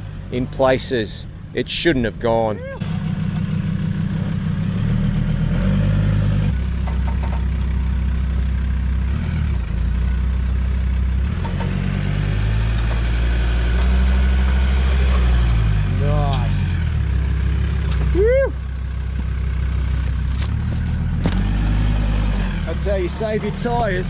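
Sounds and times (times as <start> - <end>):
off-road vehicle engine: 0.0 - 24.0.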